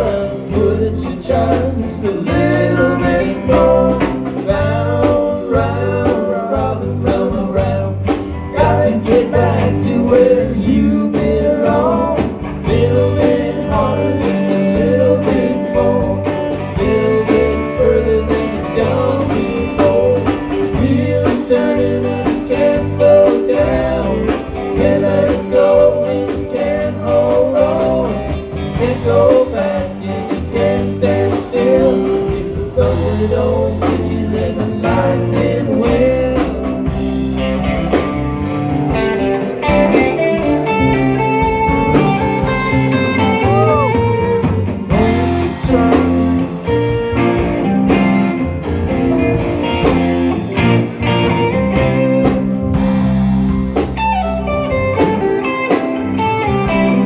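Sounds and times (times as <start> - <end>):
bass guitar: 0.0 - 57.0
drum kit: 0.0 - 57.0
electric guitar lead: 0.0 - 57.0.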